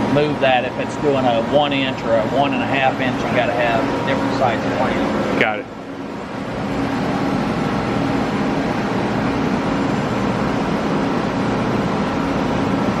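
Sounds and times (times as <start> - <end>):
machinery running with low hum: 0.0 - 13.0.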